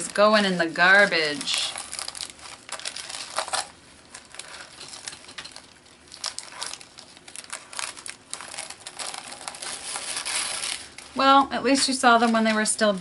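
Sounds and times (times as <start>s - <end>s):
wax paper crinkling: 0.0s - 13.0s.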